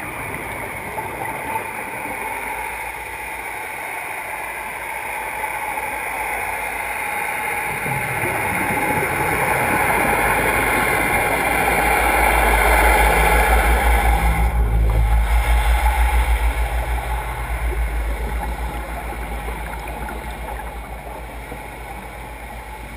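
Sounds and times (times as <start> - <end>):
boat engine throb underwater: 0.0 - 22.9.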